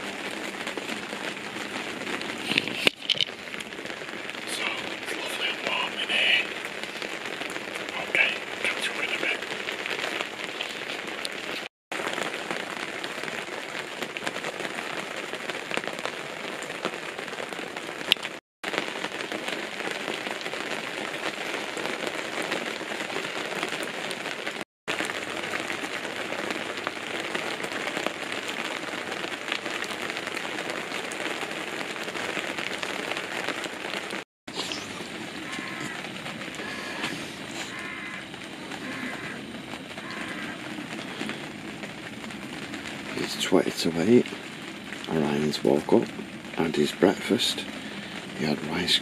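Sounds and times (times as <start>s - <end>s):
rain pattering on tent awning: 0.0s - 49.0s.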